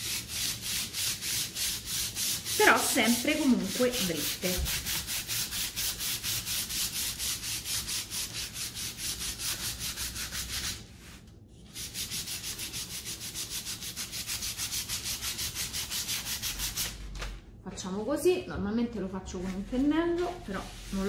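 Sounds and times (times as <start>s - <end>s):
sandpaper rasping on painted wood: 0.0s - 16.9s, 20.5s - 21.0s.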